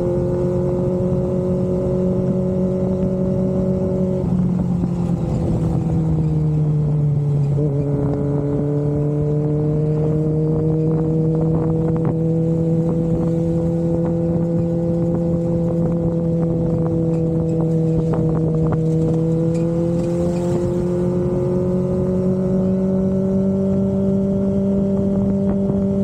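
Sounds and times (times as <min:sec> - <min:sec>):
motorcycle engine at steady revs: 0:00.0 - 0:26.0.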